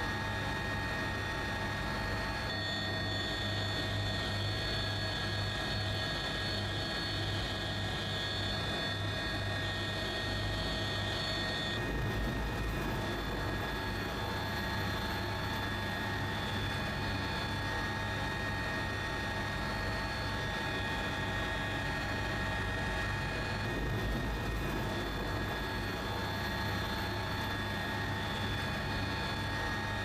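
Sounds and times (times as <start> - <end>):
engine drone with whine: 0.0 - 30.0.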